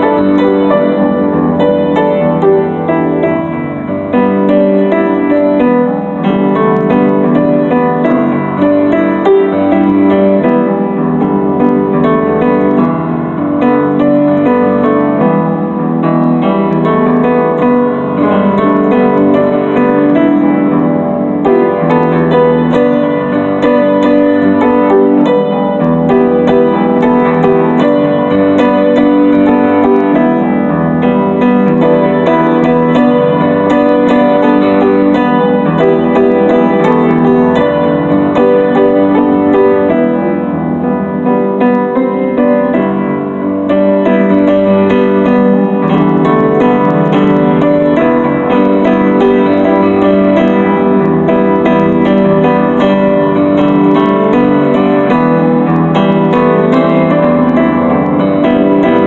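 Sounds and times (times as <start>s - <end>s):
piano keyboard playing: 0.0s - 59.0s.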